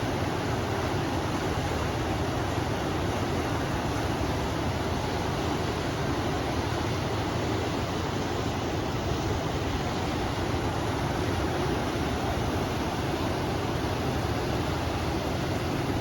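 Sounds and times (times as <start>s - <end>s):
river water rushing: 0.0s - 16.0s
wind: 0.0s - 16.0s.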